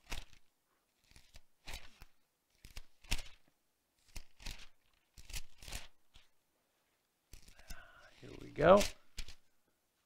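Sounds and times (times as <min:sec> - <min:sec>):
paper pages rustling: 0:00.0 - 0:06.4, 0:07.3 - 0:09.5.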